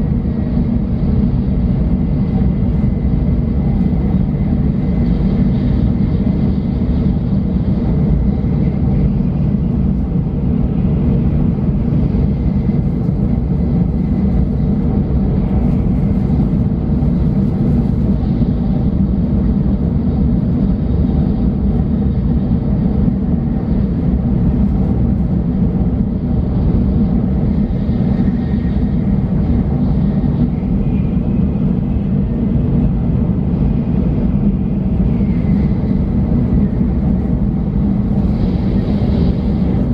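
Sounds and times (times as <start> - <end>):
faint steady whines: 0.0 - 39.9
train rumbling at speed: 0.0 - 39.9.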